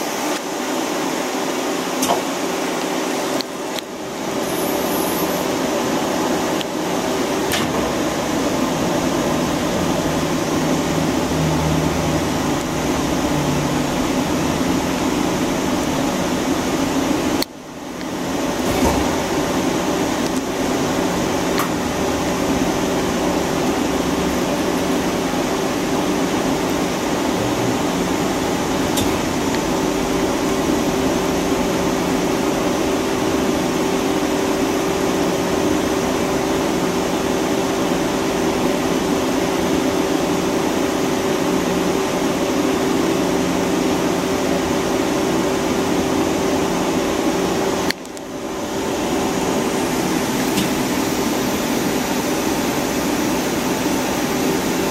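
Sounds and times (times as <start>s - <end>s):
machine hum with mid-pitched tone: 0.0s - 54.9s.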